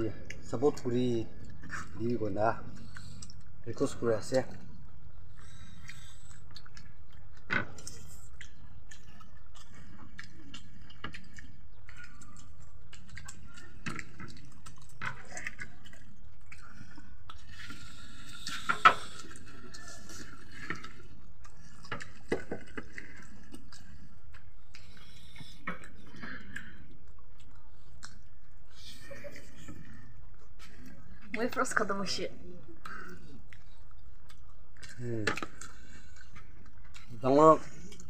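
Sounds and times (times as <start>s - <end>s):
chewing and wet squishing: 0.0s - 38.0s.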